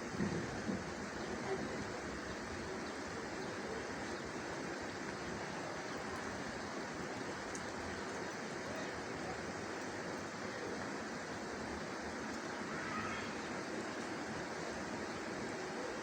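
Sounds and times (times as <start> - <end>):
rain drops pattering: 0.0 - 16.0
steady rain falling: 0.0 - 16.0.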